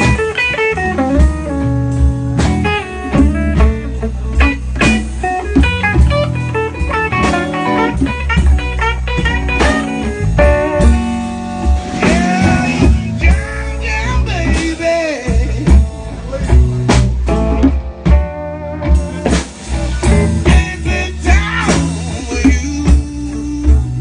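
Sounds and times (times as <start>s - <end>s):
bass guitar: 0.0s - 24.0s
drums: 0.0s - 24.0s
lead electric guitar: 0.0s - 24.0s.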